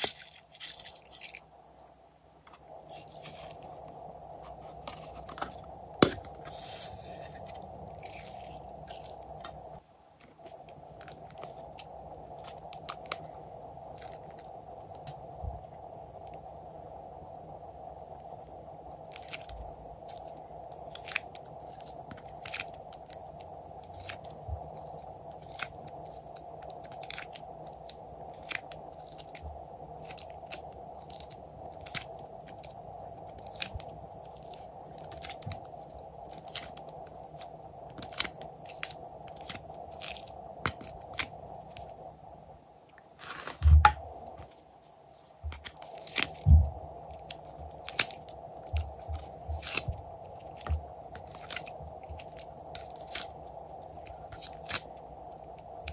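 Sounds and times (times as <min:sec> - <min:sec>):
faint hum: 0:00.0 - 0:55.9.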